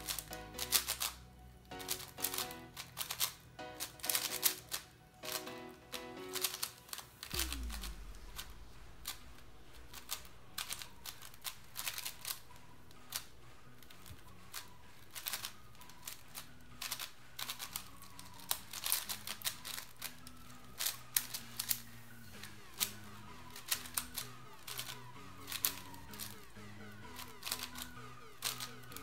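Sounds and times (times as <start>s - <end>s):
puzzle cube layers clicking: 0.0s - 29.0s.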